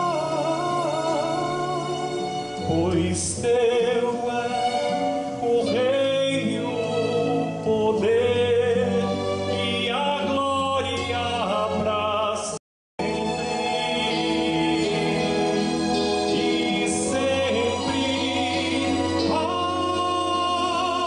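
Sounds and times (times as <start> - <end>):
sustained instrumental accompaniment: 0.0 - 12.3, 13.0 - 21.0
man singing with vibrato: 0.0 - 21.0.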